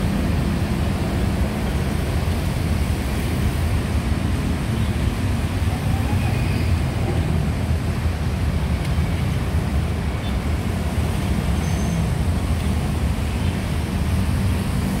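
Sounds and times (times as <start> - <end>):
busy road traffic: 0.0 - 15.0.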